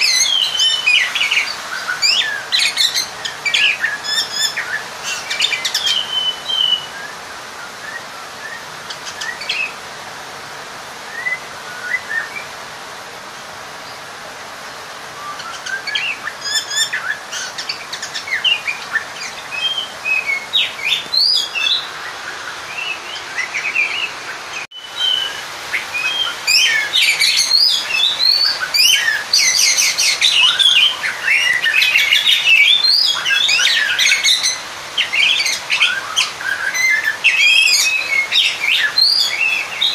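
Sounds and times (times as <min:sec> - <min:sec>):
magpie-robin singing: 0:00.0 - 0:09.8, 0:15.2 - 0:39.9.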